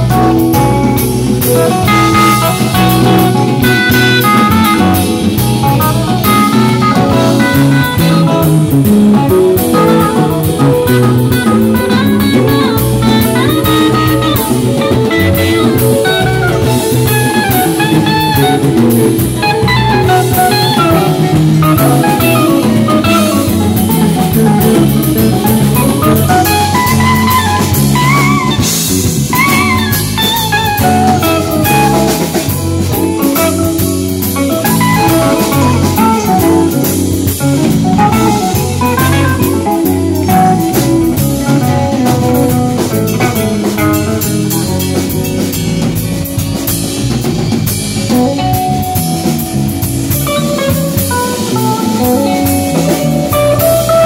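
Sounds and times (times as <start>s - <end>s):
drum kit with cymbals: 0.0s - 54.0s
lead guitar with bending notes: 0.0s - 54.0s
steady low bass notes: 0.0s - 54.0s.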